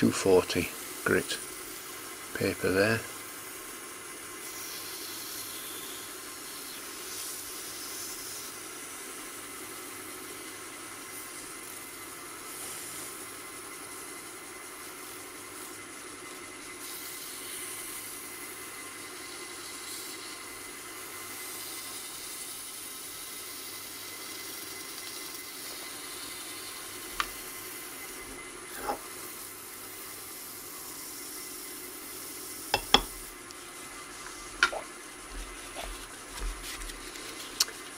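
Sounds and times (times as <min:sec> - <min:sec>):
sandpaper hissing on spinning wood: 0:00.0 - 0:37.9.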